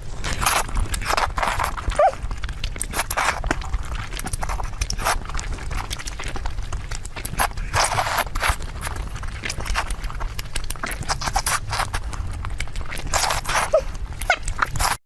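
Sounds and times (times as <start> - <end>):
crunching and slurping: 0.0 - 15.0
wet chewing and mouth smacks: 0.1 - 15.0.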